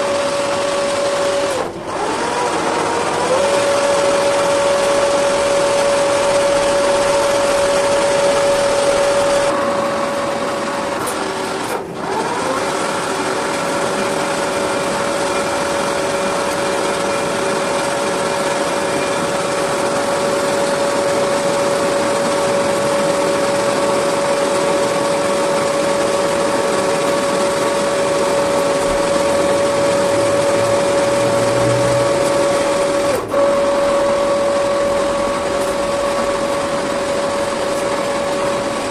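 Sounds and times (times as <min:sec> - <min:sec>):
metal lathe whining: 0:00.0 - 0:38.9.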